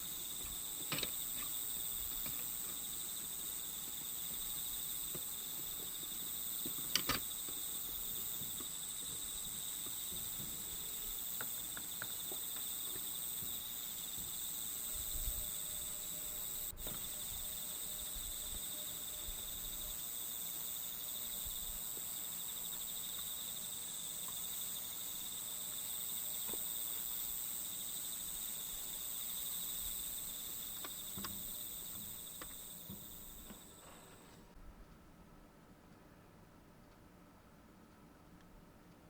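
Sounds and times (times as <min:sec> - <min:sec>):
insects chirring: 0:00.0 - 0:34.4.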